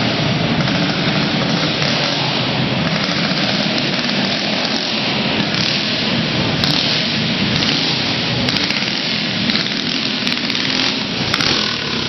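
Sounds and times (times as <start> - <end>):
go-kart engines running: 0.0 - 12.0.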